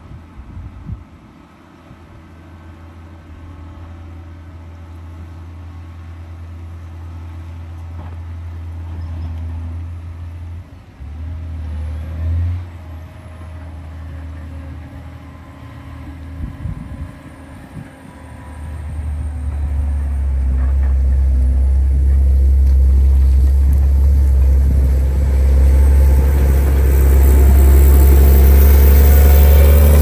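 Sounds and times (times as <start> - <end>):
diesel engine droning: 2.5 - 30.0.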